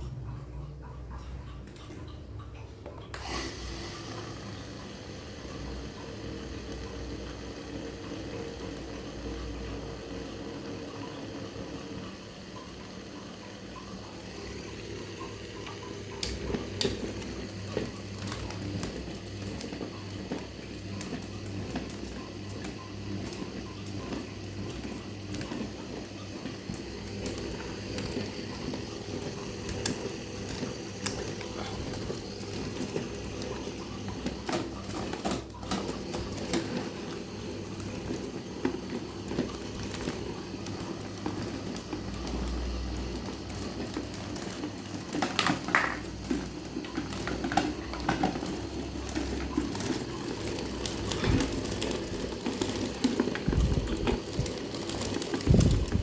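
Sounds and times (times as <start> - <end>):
electric fan motor hum: 0.0 - 56.0.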